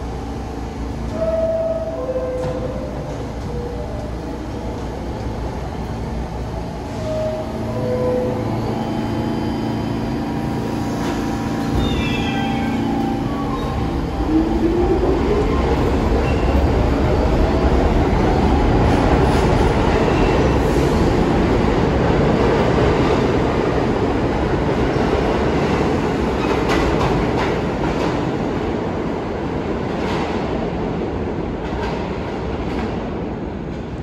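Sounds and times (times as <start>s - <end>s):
subway train running: 0.0s - 34.0s.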